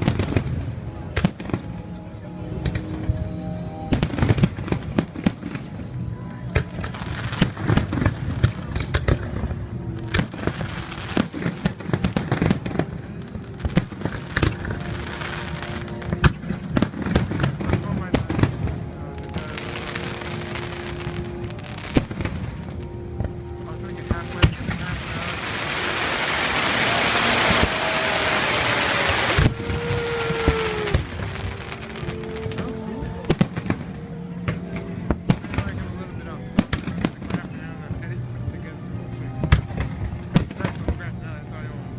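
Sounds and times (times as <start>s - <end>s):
fireworks bangs and crackles: 0.0s - 1.8s, 3.9s - 38.6s, 39.4s - 41.4s.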